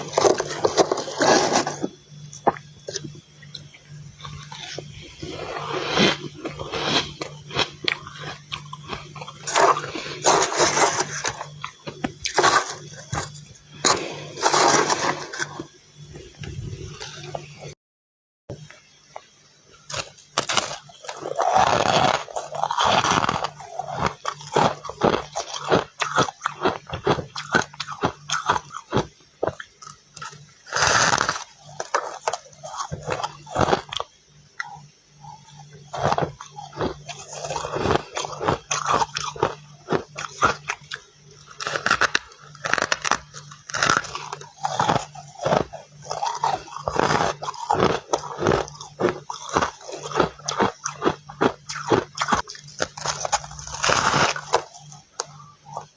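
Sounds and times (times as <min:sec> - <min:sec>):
crunchy frost chewing: 0:00.0 - 0:15.7, 0:19.8 - 0:55.9
faint low hum: 0:00.0 - 0:17.8, 0:18.5 - 0:55.9.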